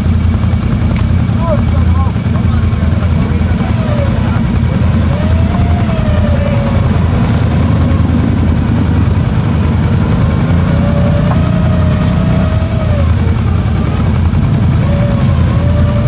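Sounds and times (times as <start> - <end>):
atv engines running hard: 0.0 - 16.0
engine whine revving: 0.0 - 16.0
wheels spinning in mud: 0.0 - 16.0.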